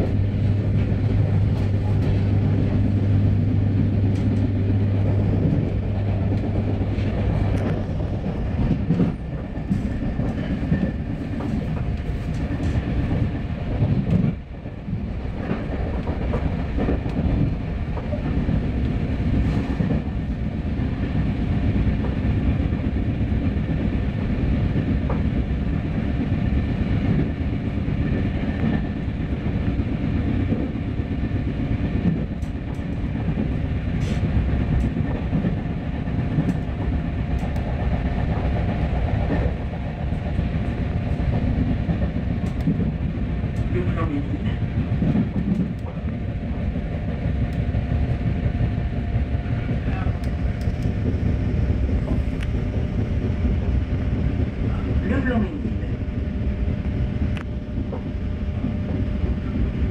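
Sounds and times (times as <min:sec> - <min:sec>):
rail clicks: 0:00.0 - 0:59.9
train wheels rumbling on rails: 0:00.0 - 0:59.9.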